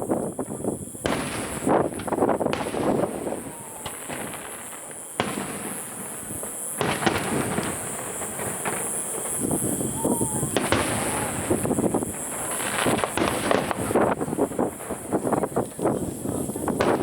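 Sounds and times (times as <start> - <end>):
fireworks bursting with bangs: 0.0 - 17.0
fireworks crackling: 0.0 - 17.0.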